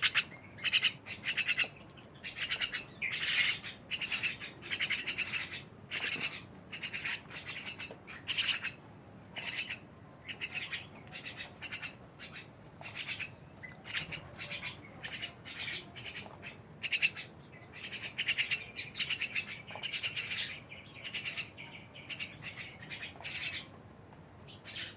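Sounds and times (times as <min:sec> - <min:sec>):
starlings chattering: 0:00.0 - 0:08.8, 0:09.4 - 0:23.7.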